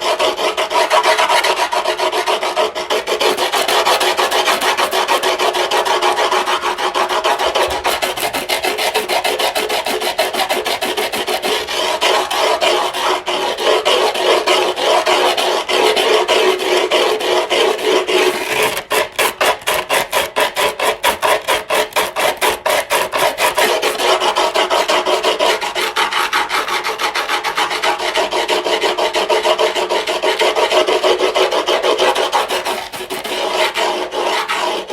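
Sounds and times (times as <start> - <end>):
file rasping griptape: 0.0 - 34.9.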